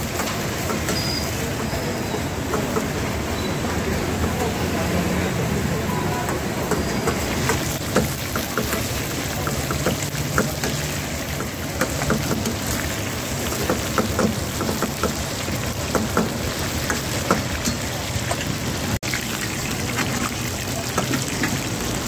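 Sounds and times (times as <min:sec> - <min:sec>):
chicken sizzling in hot oil: 0:00.0 - 0:03.8, 0:06.6 - 0:22.0.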